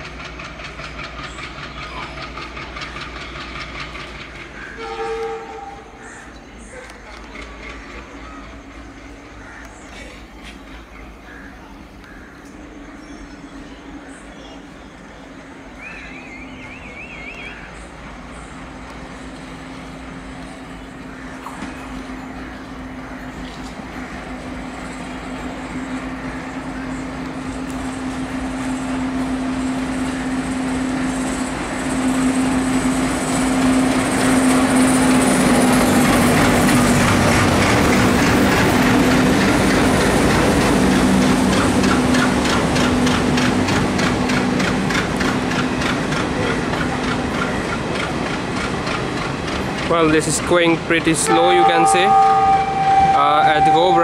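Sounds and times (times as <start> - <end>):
wheels clacking over rail joints: 0.0 - 11.2, 18.7 - 54.0
diesel locomotive engine chugging: 0.0 - 54.0.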